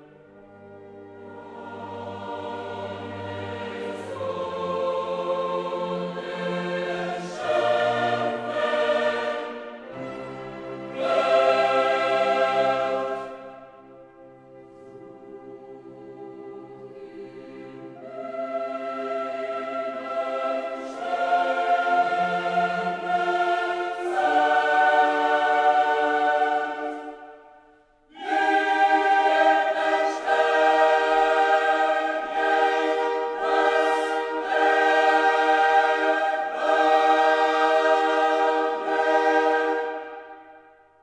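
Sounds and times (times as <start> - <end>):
choir singing held chords: 0.0 - 41.0.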